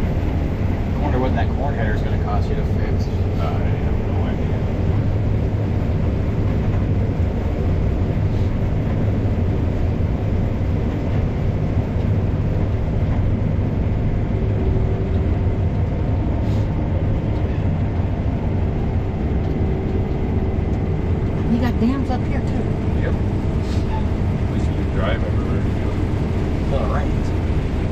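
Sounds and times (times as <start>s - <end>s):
combine harvester drone from cab: 0.0s - 27.9s.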